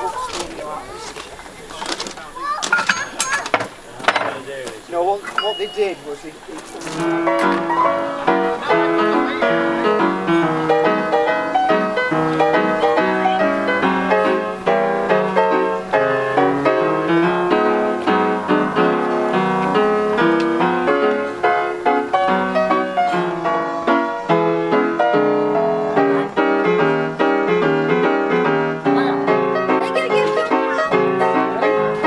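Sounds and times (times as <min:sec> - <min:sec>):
background piano music: 0:04.1 - 0:32.0.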